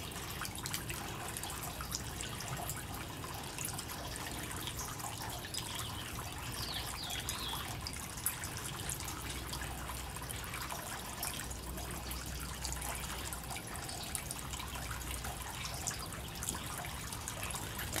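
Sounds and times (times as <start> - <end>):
fountain water trickling: 0.0 - 18.0.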